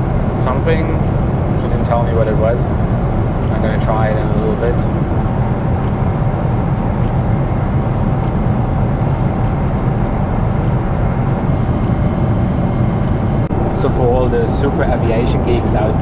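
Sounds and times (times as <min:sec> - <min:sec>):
airliner cabin engine rush: 0:00.0 - 0:16.0.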